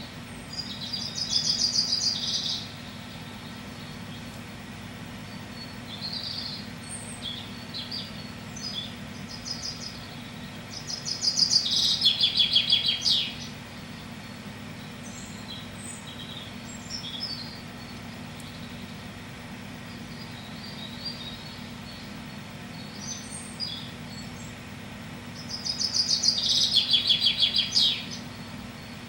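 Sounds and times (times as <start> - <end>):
bird trill: 0.0 - 29.0
small birds chirping: 0.0 - 29.0
steady low hum: 0.0 - 29.0.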